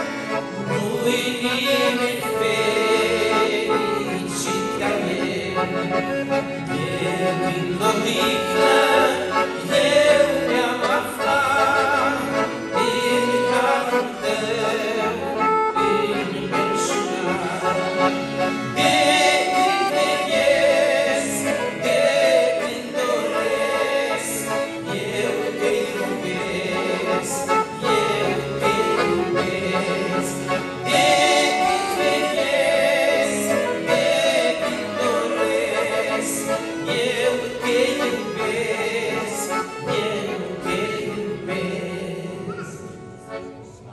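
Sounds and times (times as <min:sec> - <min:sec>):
two men singing a hymn: 0:00.0 - 0:43.4
piano accordions: 0:00.0 - 0:43.9.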